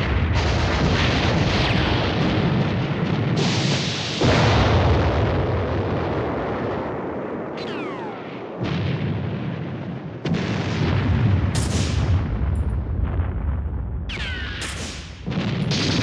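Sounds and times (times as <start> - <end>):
heavy explosion blasts: 0.0 - 16.0
rumble: 0.0 - 16.0.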